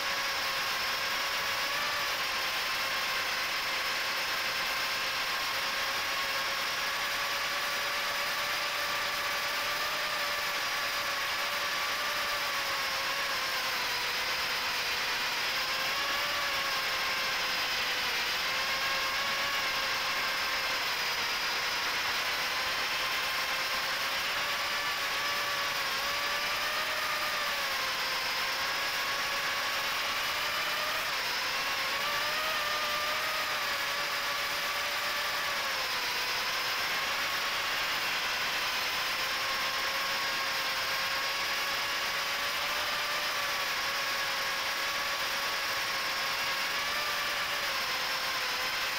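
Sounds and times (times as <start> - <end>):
drone motor whine: 0.0 - 48.9.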